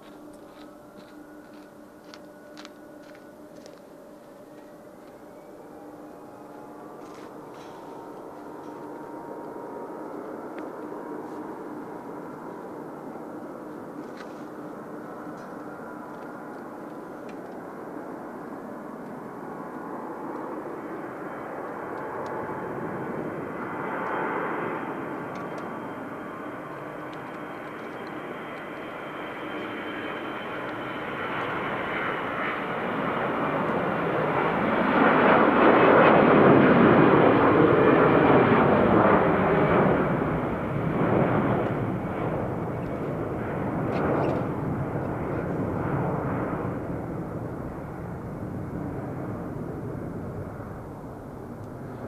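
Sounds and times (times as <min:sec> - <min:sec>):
airliner jet engines passing: 0:00.0 - 0:52.0.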